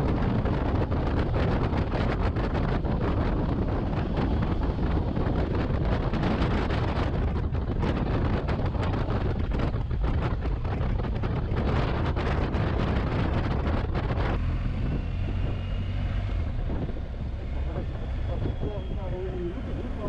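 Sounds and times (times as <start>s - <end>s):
motorcycle engine rumble: 0.0s - 20.0s
road rumble: 0.0s - 20.0s
wind buffeting microphone: 0.0s - 20.0s.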